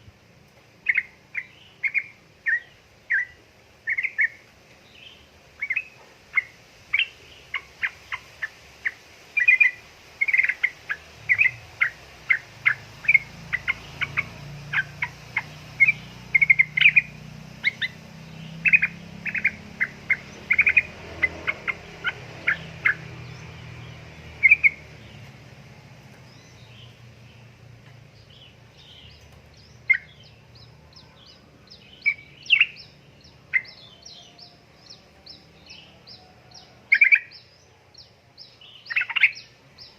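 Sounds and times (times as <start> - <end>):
bird chirping: 0.0 - 39.9
small birds chirping high: 0.0 - 39.9.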